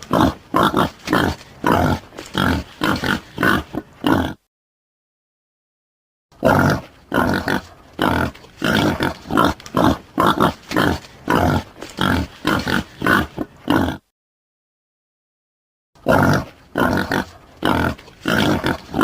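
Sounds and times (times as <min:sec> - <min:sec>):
boar grunting: 0:00.0 - 0:04.5, 0:06.4 - 0:14.1, 0:16.0 - 0:19.0.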